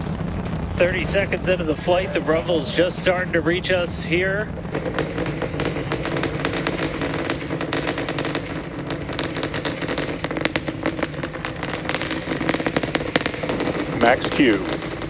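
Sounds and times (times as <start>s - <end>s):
distant rocket roar with crackling: 0.0s - 15.0s.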